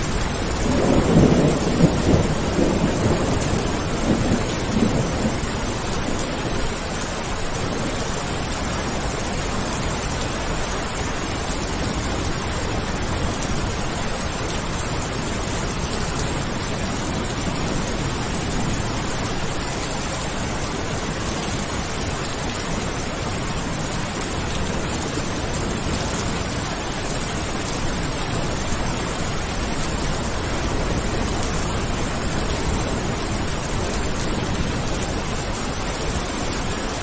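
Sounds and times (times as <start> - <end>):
low thunder rumble: 0.0 - 37.0
steady rain: 0.0 - 37.0.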